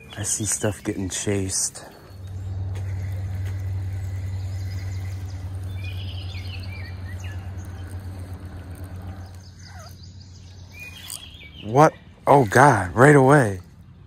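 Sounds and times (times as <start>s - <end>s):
bird chirps: 0.0s - 12.6s
steady low hum: 0.0s - 14.0s.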